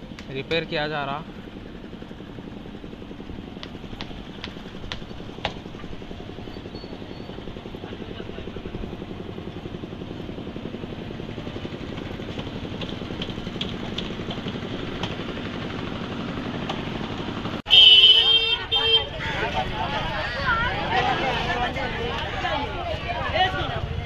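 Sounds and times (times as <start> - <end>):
small engine chugging: 0.0 - 24.0.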